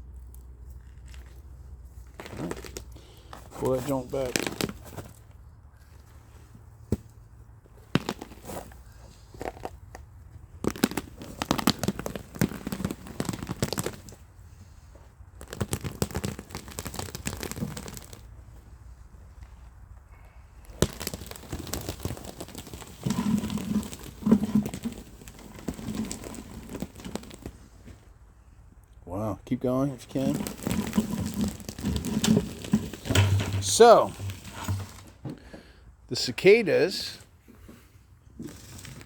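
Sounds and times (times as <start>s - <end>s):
turf tearing and crackling: 0.1s - 6.0s, 7.8s - 27.9s, 30.0s - 35.2s, 38.4s - 39.0s.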